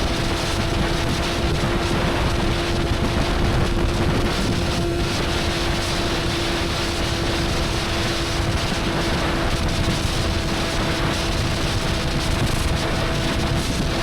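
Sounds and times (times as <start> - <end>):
wind rush on microphone: 0.0 - 14.0.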